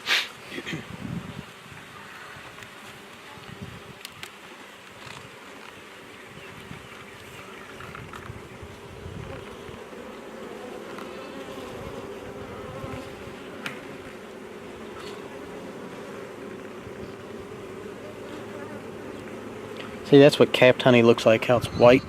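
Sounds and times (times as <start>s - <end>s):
honey bees buzzing: 0.8s - 22.0s.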